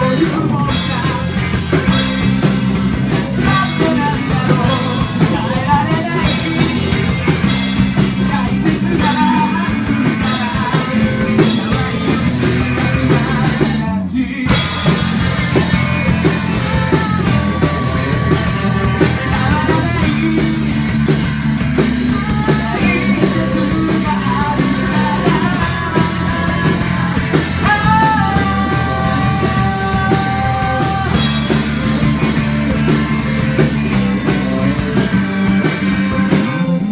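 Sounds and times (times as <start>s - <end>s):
rock band with singing: 0.0s - 36.9s.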